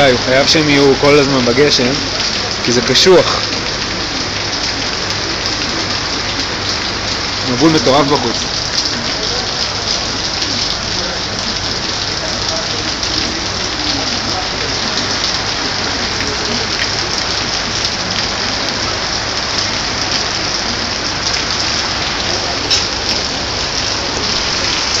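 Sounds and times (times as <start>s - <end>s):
heavy rain pouring: 0.0s - 25.0s
sharp raindrop hits: 1.9s - 25.0s.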